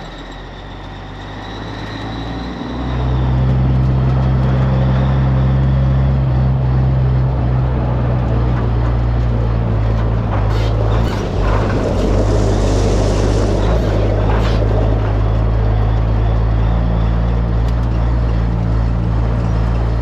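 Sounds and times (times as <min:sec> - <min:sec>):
vehicle engine pulling away: 0:00.0 - 0:20.0.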